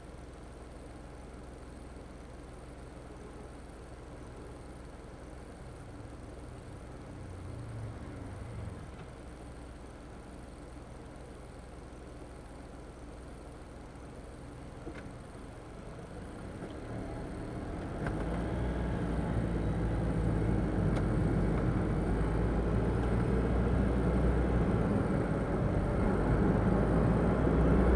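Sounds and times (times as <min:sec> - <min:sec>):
car engine and road noise: 0:00.0 - 0:27.9.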